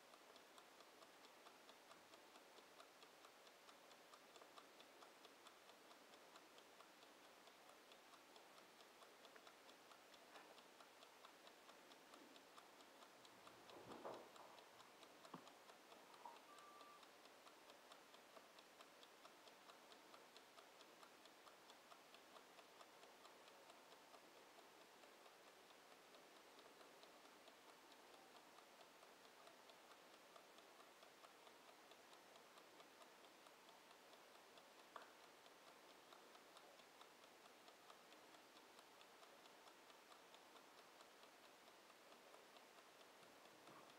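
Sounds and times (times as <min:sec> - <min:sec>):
mechanical kitchen timer ticking: 0:00.0 - 0:43.9.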